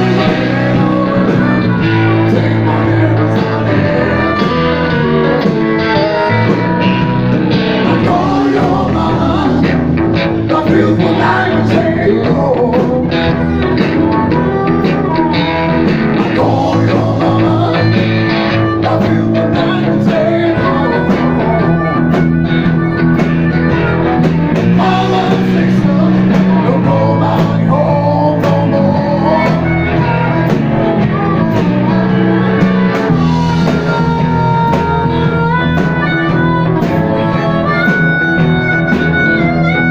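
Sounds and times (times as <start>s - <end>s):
harmonica: 0.0s - 39.9s
live blues-rock band: 0.0s - 39.9s.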